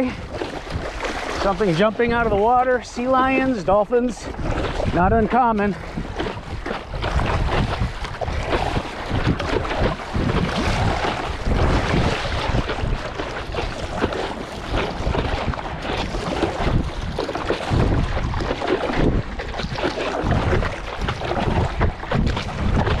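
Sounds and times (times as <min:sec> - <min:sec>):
paddle pulling through water: 0:00.0 - 0:23.0
water splashing at board: 0:00.0 - 0:23.0
wind rumbling on microphone: 0:00.0 - 0:23.0.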